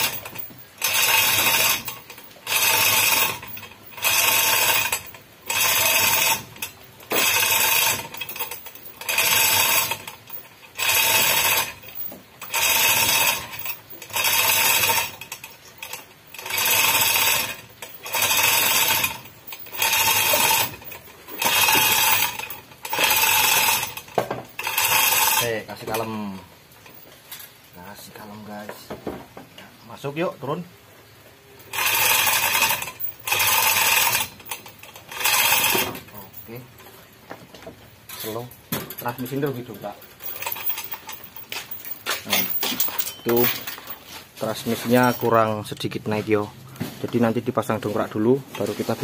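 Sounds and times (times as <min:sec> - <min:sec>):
chain hoist rattling: 0:00.0 - 0:27.5, 0:31.6 - 0:37.0, 0:37.6 - 0:46.2.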